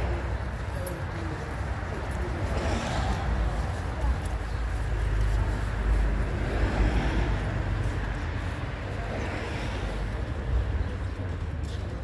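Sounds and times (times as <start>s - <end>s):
low rumble of passing cars: 0.0s - 12.0s.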